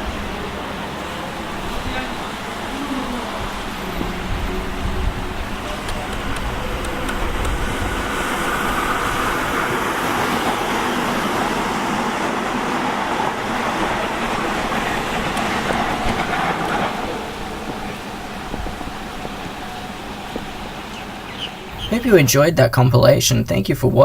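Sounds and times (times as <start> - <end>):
electric train motors: 0.0 - 22.4
train wheels on rails: 0.0 - 24.0.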